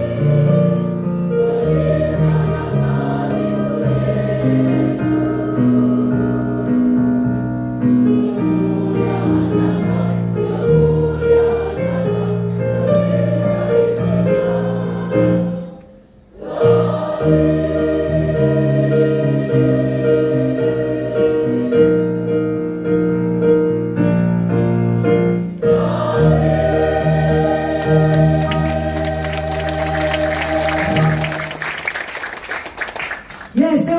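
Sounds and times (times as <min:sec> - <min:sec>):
mixed choir singing: 0:00.0 - 0:22.4, 0:25.6 - 0:32.0.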